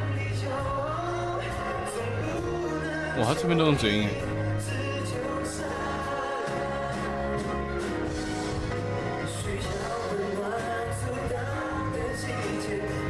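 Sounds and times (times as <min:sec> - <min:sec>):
person singing: 0:00.0 - 0:13.0
pop ballad: 0:00.0 - 0:13.0.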